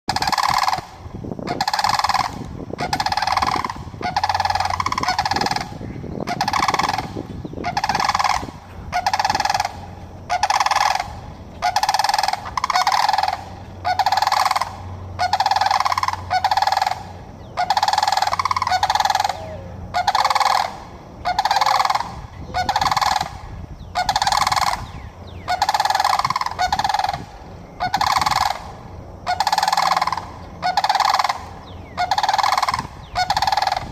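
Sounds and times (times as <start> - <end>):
cranes trumpeting calls: 0.1 - 33.9.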